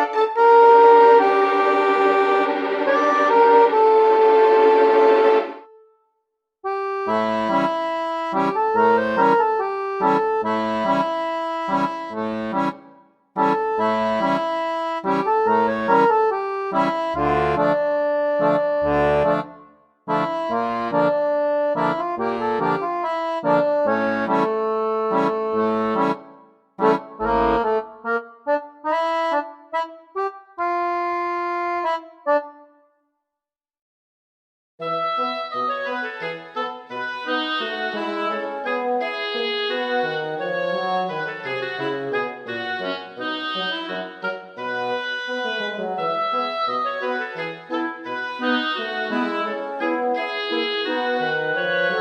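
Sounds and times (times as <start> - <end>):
instrumental music with reedy melody: 0.0 - 5.9, 6.6 - 32.9, 34.8 - 52.0.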